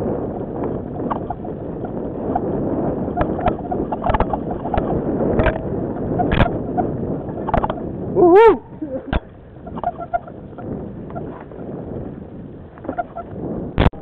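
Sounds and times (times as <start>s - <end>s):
bike knocks and rattles: 0.0s - 7.8s, 9.1s - 14.0s
bike tyre noise on dirt: 0.0s - 14.0s
wind noise: 0.0s - 14.0s.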